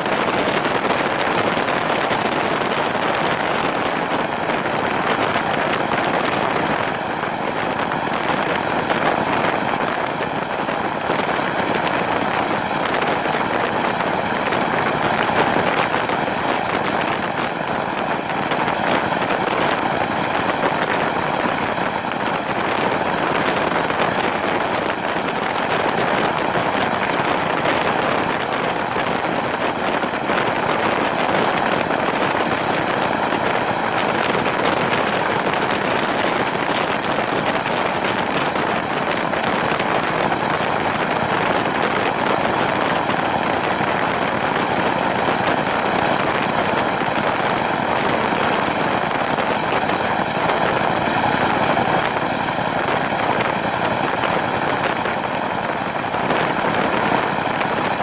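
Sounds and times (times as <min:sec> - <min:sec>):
helicopter rotor and wind noise: 0:00.0 - 0:58.0.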